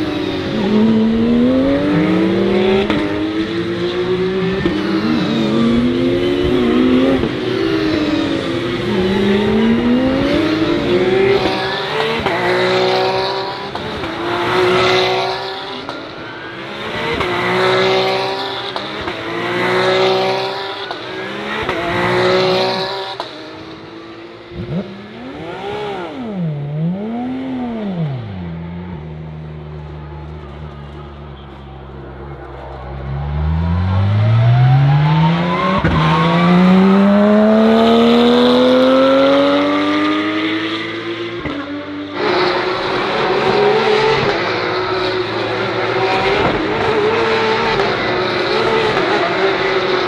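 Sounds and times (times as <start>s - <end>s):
engine revving: 0.0s - 23.9s, 24.5s - 28.8s, 32.4s - 50.0s
race cars passing at speed: 0.0s - 50.0s.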